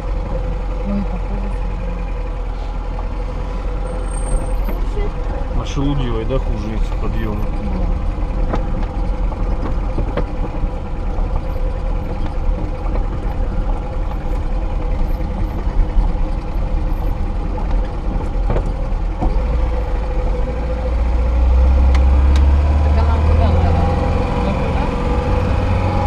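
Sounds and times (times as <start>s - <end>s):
car engine running at low revs: 0.0s - 26.0s
car knocking and rattling: 0.0s - 26.0s.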